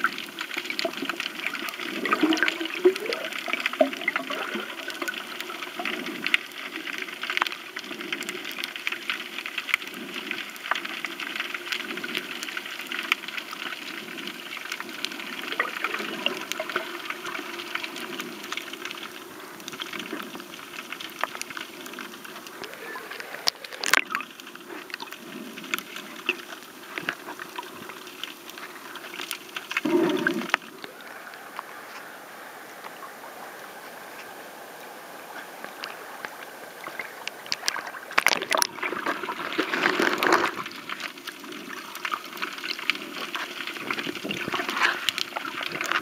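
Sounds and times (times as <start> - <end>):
water washing: 0.0 - 8.3, 13.2 - 46.0
muffled underwater wash with clicks: 0.0 - 46.0
water splashing: 0.0 - 46.0.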